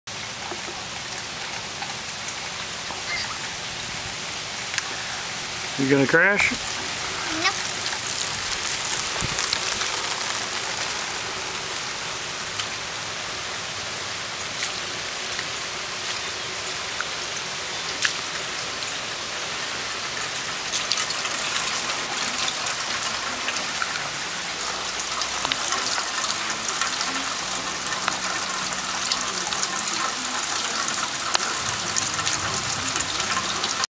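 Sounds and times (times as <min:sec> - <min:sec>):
rain on wet pavement: 0:00.1 - 0:33.9.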